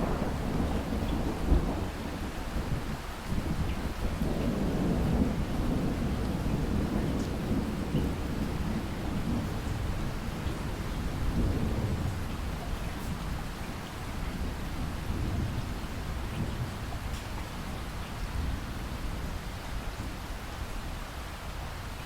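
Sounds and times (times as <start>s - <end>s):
low rolling thunder: 0.0s - 20.2s
steady rain: 0.0s - 22.0s.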